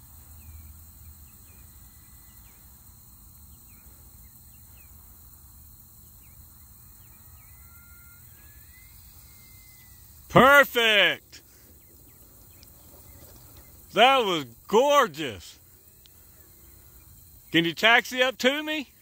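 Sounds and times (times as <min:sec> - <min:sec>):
high insect drone: 0:00.0 - 0:19.0
short insect chirps: 0:00.0 - 0:19.0.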